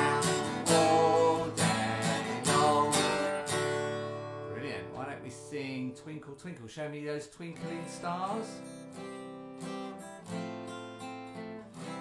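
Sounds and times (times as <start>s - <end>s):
acoustic guitar strumming: 0.0s - 6.3s, 7.4s - 12.0s.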